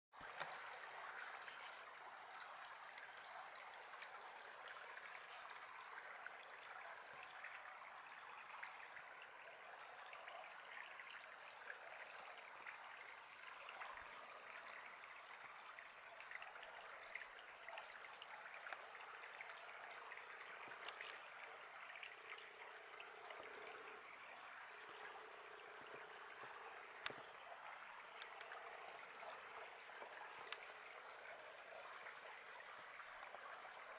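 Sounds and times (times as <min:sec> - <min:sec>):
creek trickling over stones: 0:00.2 - 0:33.9.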